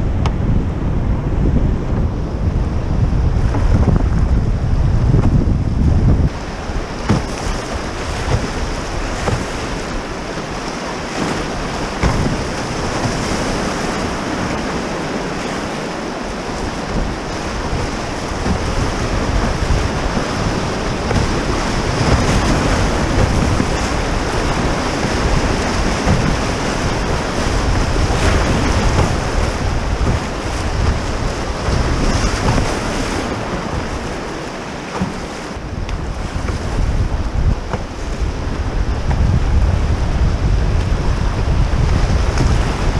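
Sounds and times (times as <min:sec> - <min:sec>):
churning river rapids: 0:00.0 - 0:42.9
waves splashing against hull: 0:00.0 - 0:42.9
wind buffeting microphone: 0:00.0 - 0:42.9.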